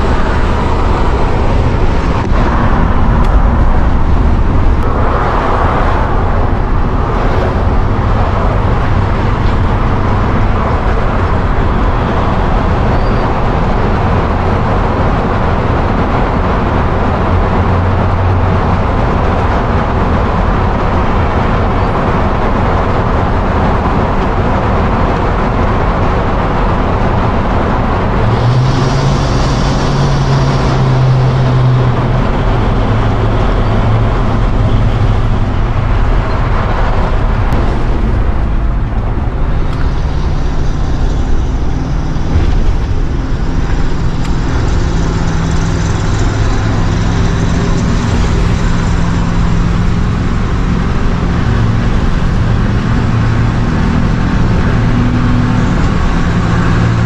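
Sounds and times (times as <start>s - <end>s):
engine running steadily: 0.0s - 57.0s
road and wind noise: 0.0s - 57.0s.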